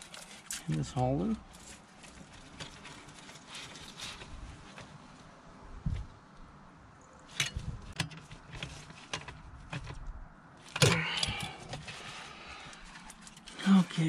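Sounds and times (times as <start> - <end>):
clatter and scrape: 0.0 - 5.2, 7.3 - 14.0.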